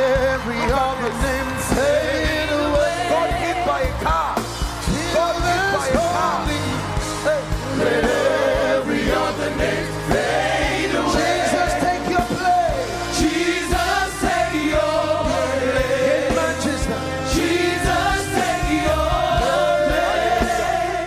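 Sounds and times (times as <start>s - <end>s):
band with steady beat: 0.0s - 21.0s
voices singing together: 0.0s - 21.0s.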